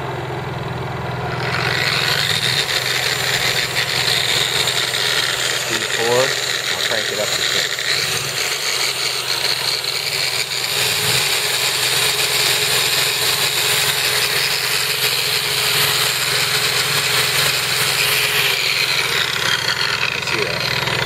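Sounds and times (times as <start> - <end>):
generator engine running: 0.0 - 21.0
electric buffer whirring: 0.8 - 21.0.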